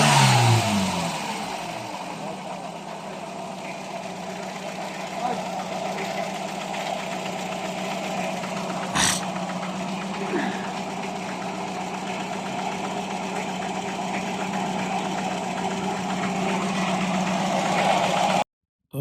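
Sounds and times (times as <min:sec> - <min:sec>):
car engine idling: 0:00.0 - 0:18.4.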